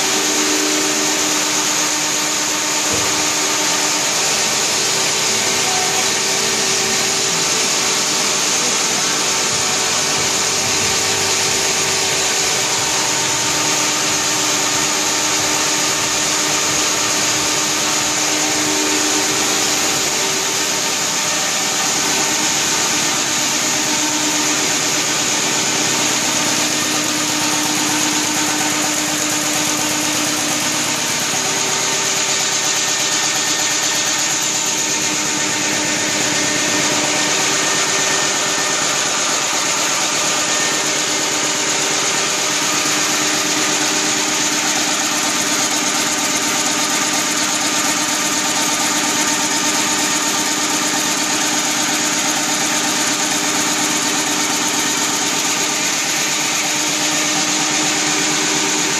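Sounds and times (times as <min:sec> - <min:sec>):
printing press running: 0:00.0 - 0:58.9.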